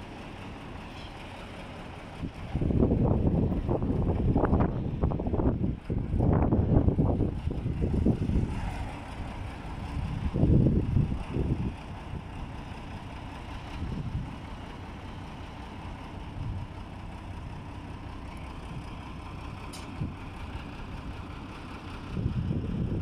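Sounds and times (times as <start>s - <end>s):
diesel engine rumbling: 0.0s - 23.0s
wind buffeting microphone: 2.1s - 15.0s, 16.0s - 17.8s, 18.5s - 23.0s.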